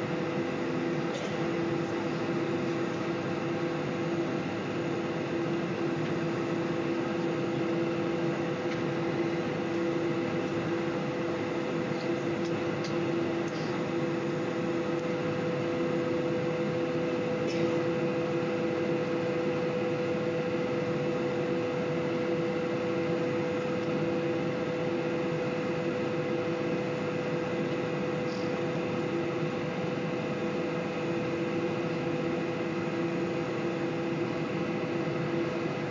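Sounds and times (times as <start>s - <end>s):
jet engines idling cabin hum: 0.0s - 35.9s.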